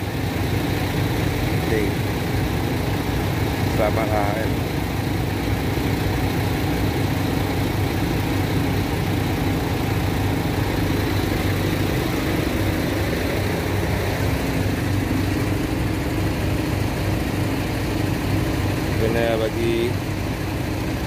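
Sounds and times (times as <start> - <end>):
diesel engines idling: 0.0 - 21.0.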